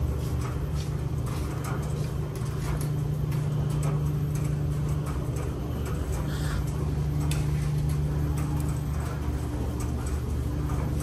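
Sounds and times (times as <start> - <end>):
clothes dryer humming: 0.0 - 11.0.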